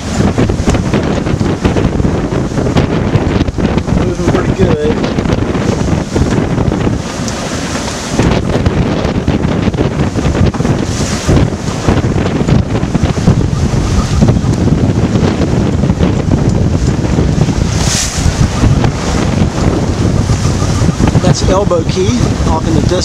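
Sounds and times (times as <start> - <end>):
waves rushing past hull: 0.0 - 23.0
wind buffeting microphone: 0.0 - 23.0.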